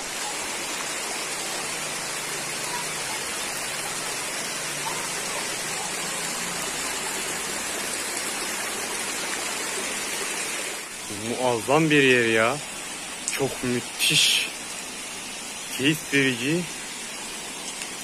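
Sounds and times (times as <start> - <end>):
stream water rushing over stones: 0.0 - 18.0.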